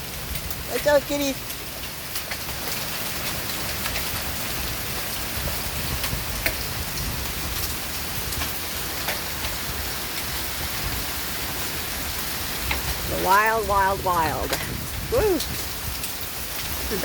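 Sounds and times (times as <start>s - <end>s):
hailstones ticking on hard surfaces: 0.0s - 17.0s
heavy rain hissing: 0.0s - 17.0s.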